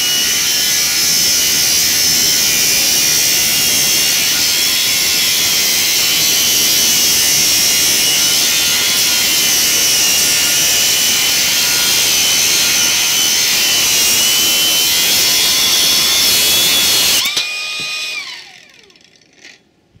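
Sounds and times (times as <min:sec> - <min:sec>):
angle grinder cutting metal: 0:00.0 - 0:19.6
grinder motor winding down: 0:00.0 - 0:19.6.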